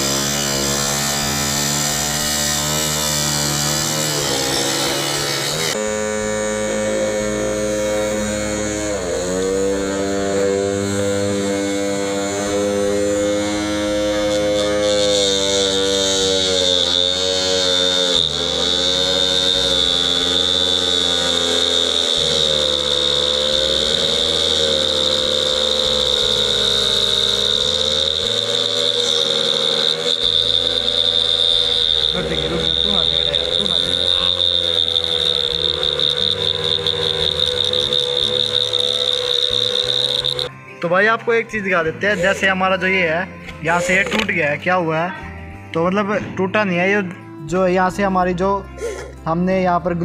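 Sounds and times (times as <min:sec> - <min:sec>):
motor spinning cutting disc: 0:00.0 - 0:40.7, 0:41.9 - 0:44.6
higher whine: 0:00.0 - 0:45.8.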